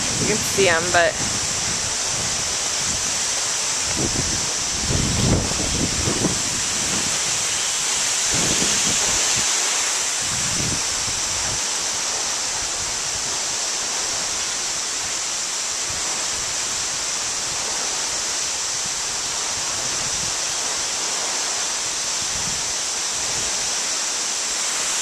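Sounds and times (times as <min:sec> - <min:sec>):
wind buffeting microphone: 0:00.0 - 0:15.2, 0:15.8 - 0:20.8, 0:22.0 - 0:23.7
waterfall rushing: 0:00.0 - 0:25.0.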